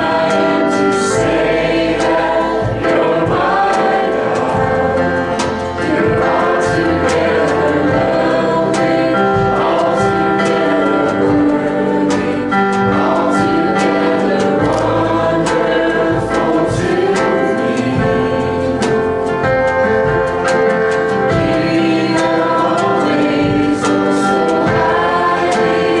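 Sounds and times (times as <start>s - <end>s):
acoustic and electric guitars: 0.0s - 26.0s
keyboard: 0.0s - 26.0s
voices singing together: 0.0s - 26.0s.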